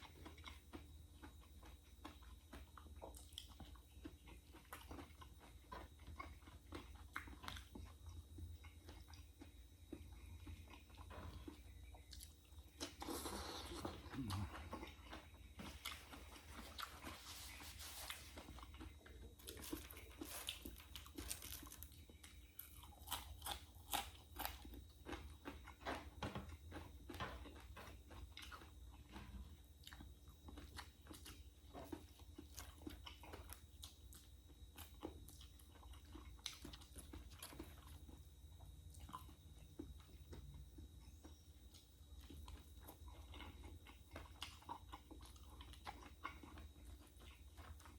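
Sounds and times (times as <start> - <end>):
crunching of crisp fried food: 0.0 - 47.9.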